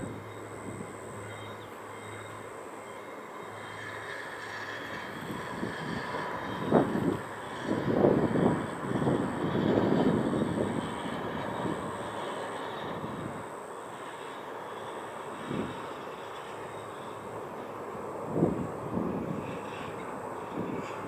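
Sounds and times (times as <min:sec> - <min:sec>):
distant jet engine hum: 0:00.0 - 0:21.0.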